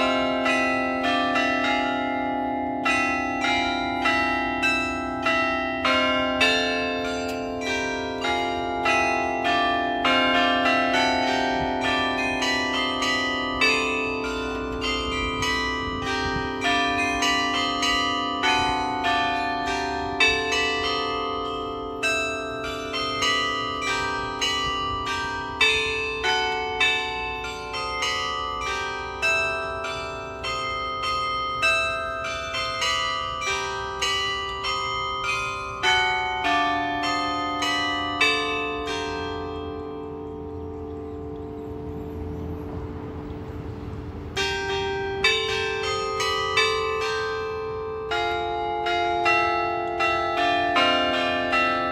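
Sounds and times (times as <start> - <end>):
carillon bells playing melody: 0.0 - 51.9.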